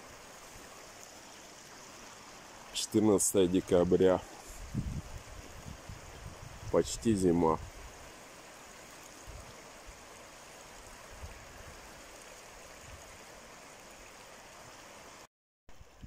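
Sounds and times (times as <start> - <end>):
river flowing over stones: 0.0 - 15.3.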